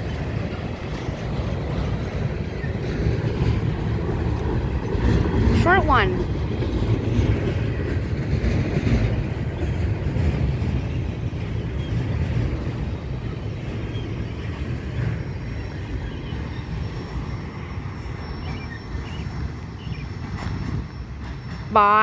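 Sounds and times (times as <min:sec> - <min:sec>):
train cars rumbling on rails: 0:00.0 - 0:22.0.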